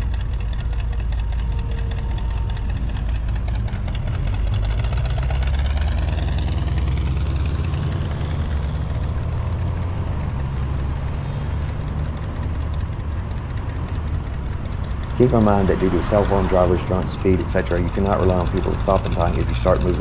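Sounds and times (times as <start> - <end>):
hot rod engine rumbling: 0.0 - 20.0.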